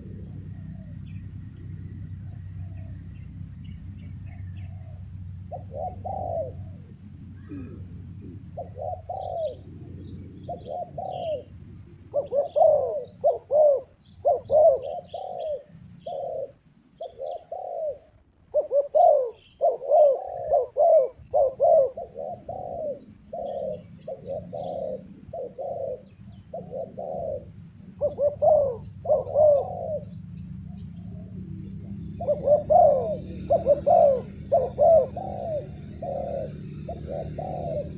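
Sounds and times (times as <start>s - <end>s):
dove cooing: 0.0s - 37.9s.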